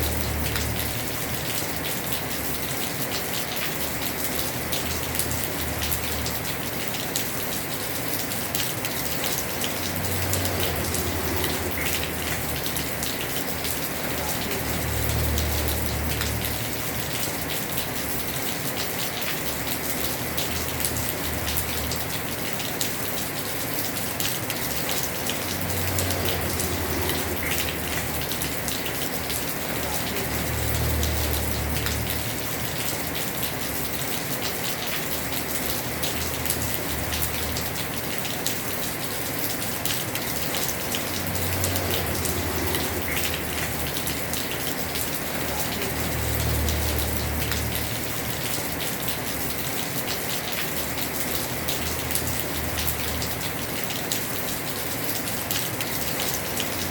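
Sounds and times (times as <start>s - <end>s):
heavy rain on a roof: 0.0s - 56.9s.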